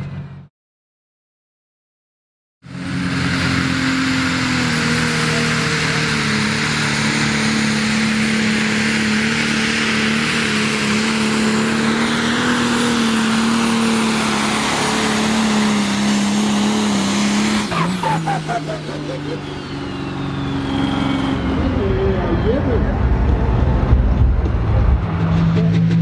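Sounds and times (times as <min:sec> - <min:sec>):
diesel engine running flat out: 0:02.6 - 0:26.0.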